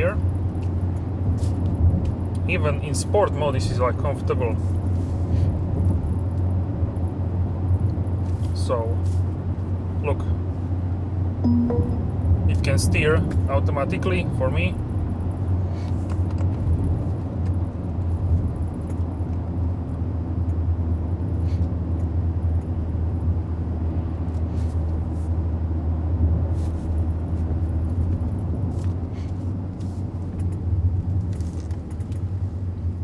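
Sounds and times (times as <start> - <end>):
diesel engine drone in car cabin: 0.0 - 33.0
tyres on the road: 0.0 - 33.0.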